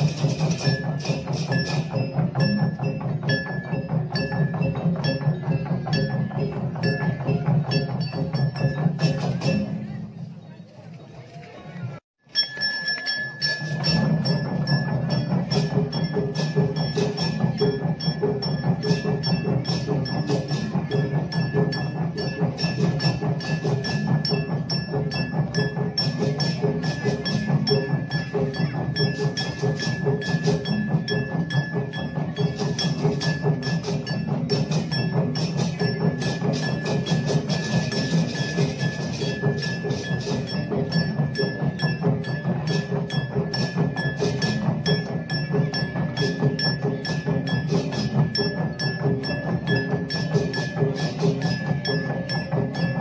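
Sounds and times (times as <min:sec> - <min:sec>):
wooden cattle bells clattering: 0:00.0 - 0:11.5, 0:12.2 - 0:53.0.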